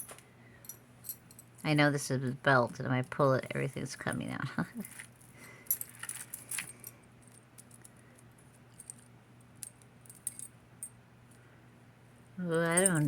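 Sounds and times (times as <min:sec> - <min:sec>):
jewelry clinking and jangling: 0:00.0 - 0:02.0, 0:02.7 - 0:11.4, 0:12.5 - 0:13.0
faint low hum: 0:00.0 - 0:13.0.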